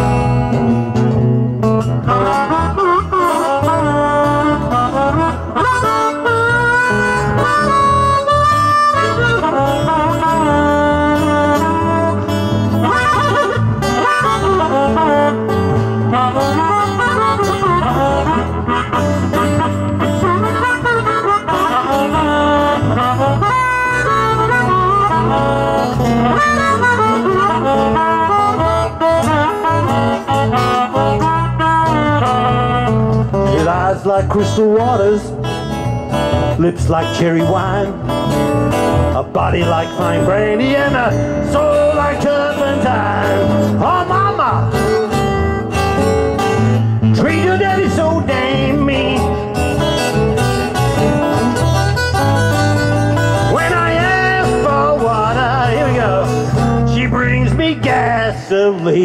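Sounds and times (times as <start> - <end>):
blues harmonica: 0.0 - 58.9
electric bass: 0.0 - 59.0
strummed acoustic guitars: 0.0 - 59.0.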